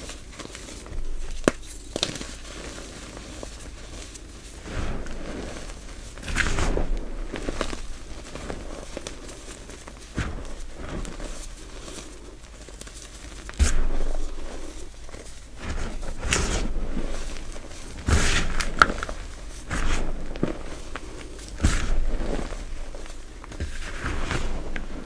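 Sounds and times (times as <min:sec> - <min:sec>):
hands crunching powdery chalk: 0:00.0 - 0:25.0.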